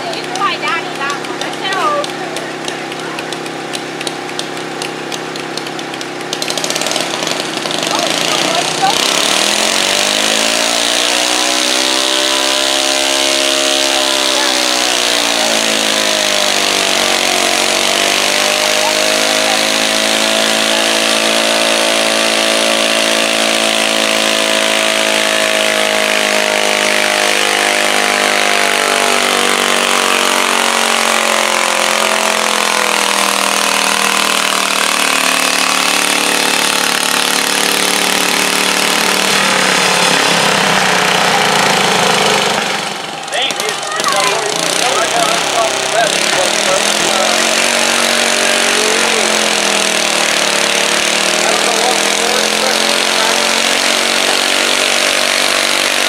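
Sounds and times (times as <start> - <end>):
garden tractor engine at high revs: 0.0 - 56.0.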